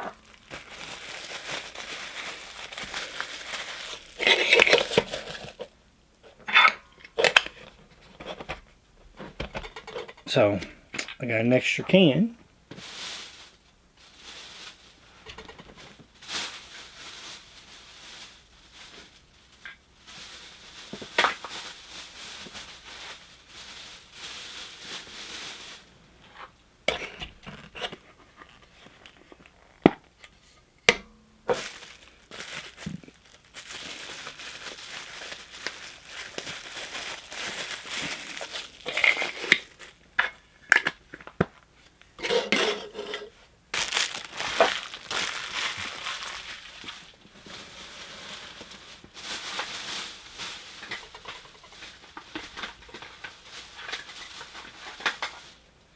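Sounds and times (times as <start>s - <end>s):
packaging crinkling and rustling: 0.0s - 8.7s, 12.7s - 30.5s, 31.5s - 42.4s, 43.7s - 55.6s.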